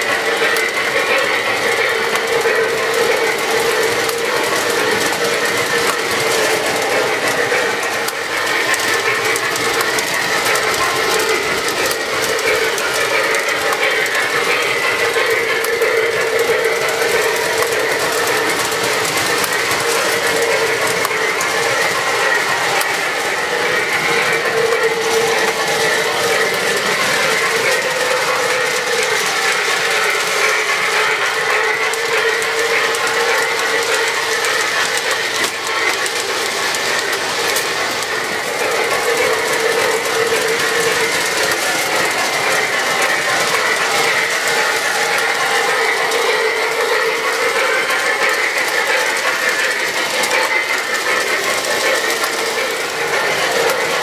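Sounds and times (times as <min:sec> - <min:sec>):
model train wheels clattering: 0:00.0 - 0:54.0.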